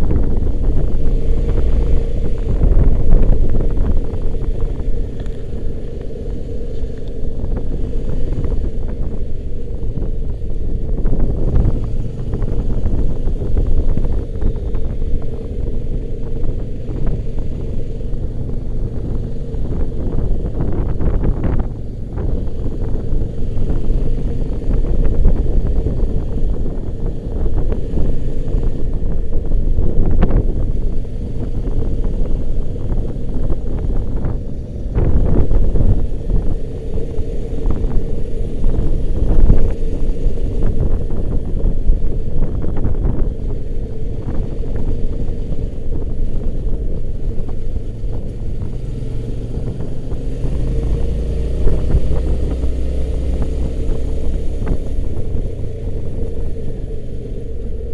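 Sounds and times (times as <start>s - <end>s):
motorcycle engine running: 0.0s - 57.9s
wind buffeting microphone: 0.0s - 57.9s.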